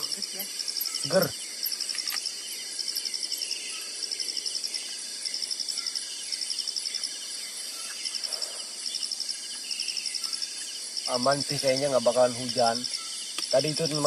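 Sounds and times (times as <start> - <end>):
insects buzzing: 0.0 - 14.0
rapid pulsed insect chirp: 0.0 - 14.0.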